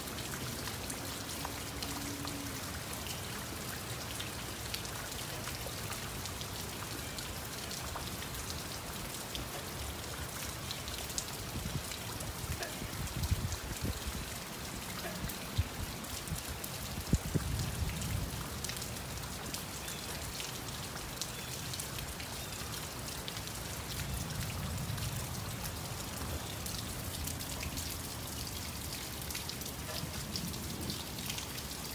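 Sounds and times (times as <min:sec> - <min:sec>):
rain drops clicking: 0:00.0 - 0:31.9.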